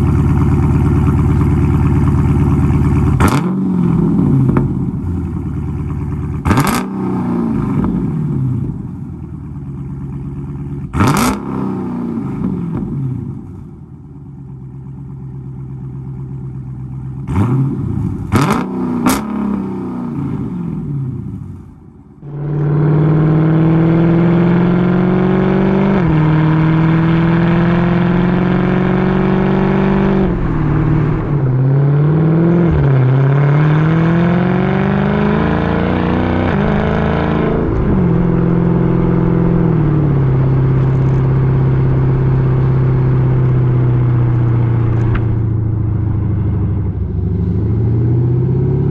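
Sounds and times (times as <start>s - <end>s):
car exhaust roaring: 0.0s - 48.9s.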